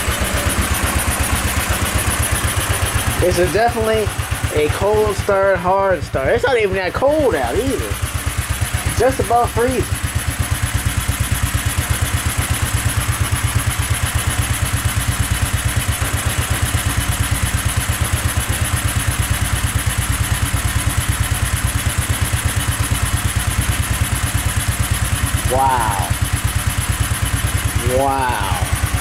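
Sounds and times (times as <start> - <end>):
go-kart engine idling: 0.0 - 29.0.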